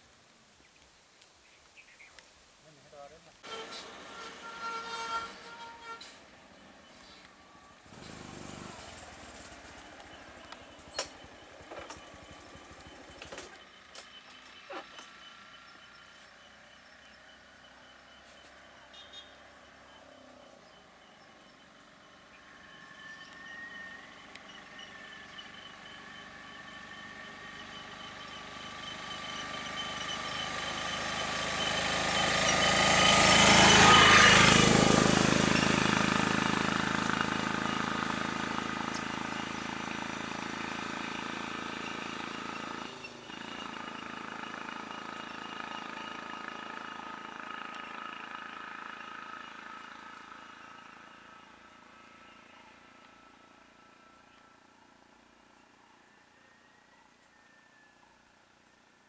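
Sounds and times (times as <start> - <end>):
vehicle driving past: 3.5 - 57.9.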